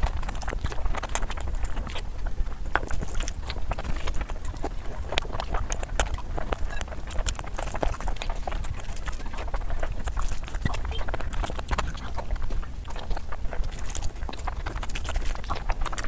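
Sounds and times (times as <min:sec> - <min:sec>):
chewing and mouth smacking: 0:00.0 - 0:16.0.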